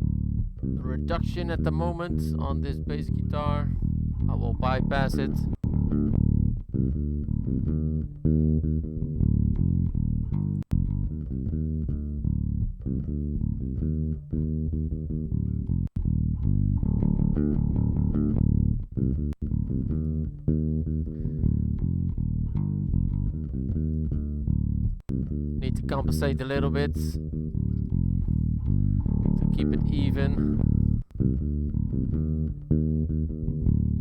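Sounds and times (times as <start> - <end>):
electric bass guitar plucked notes: 0.0 - 34.0.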